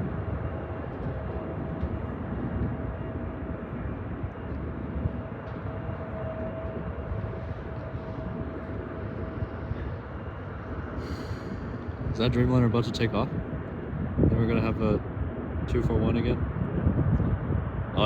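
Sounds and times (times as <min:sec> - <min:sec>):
jet engines rumbling: 0:00.0 - 0:18.0
thin steady whine: 0:00.0 - 0:18.0.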